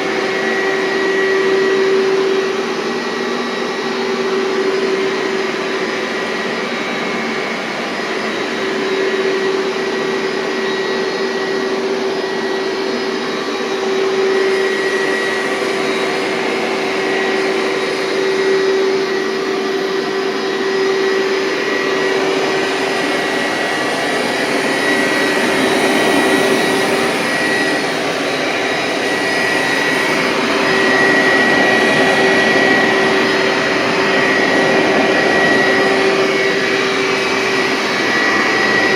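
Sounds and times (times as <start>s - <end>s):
carpet cleaner suction motor: 0.0s - 38.9s.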